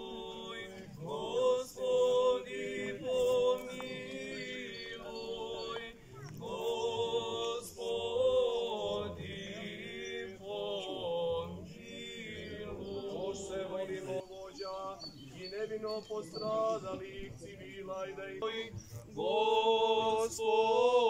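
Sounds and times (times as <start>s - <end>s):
group chanting unaccompanied: 0.0s - 21.0s.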